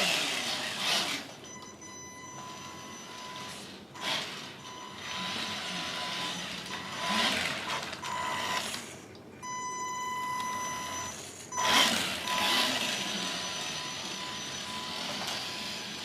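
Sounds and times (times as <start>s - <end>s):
rc car electric motor whine: 0.0s - 1.4s, 2.6s - 9.0s, 10.8s - 16.0s.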